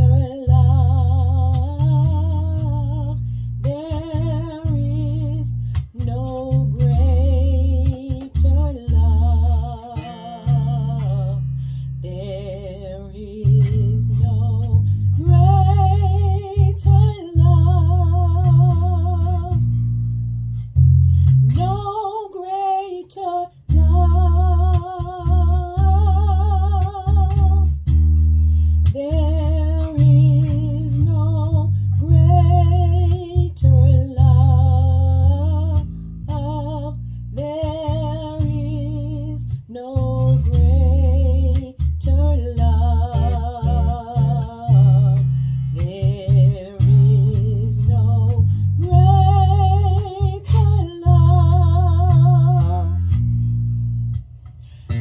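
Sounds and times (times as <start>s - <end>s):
woman singing with vibrato: 0.0s - 19.8s, 21.6s - 27.8s, 28.8s - 53.1s
electric bass sustained notes: 0.0s - 55.0s.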